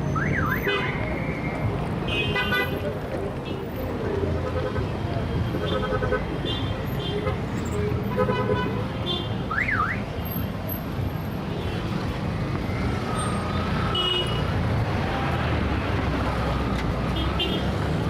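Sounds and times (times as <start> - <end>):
heavy city traffic rumble: 0.0 - 18.0.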